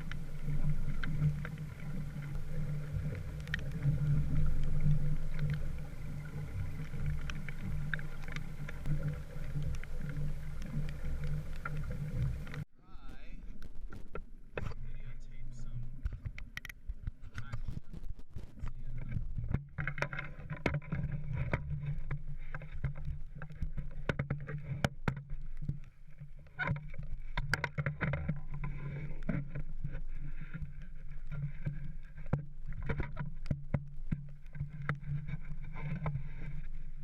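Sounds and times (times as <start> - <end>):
water lapping along hull: 0.0 - 37.0.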